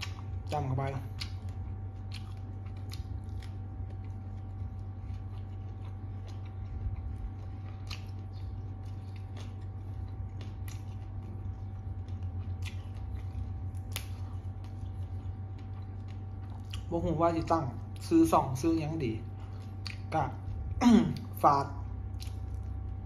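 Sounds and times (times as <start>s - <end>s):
chewing and crunching vegetables: 0.0s - 23.0s
steady low hum: 0.0s - 23.0s.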